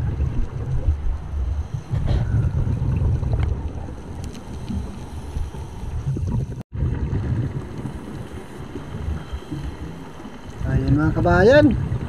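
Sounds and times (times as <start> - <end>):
underwater rumble: 0.0 - 12.0
water moving against camera: 0.0 - 12.0.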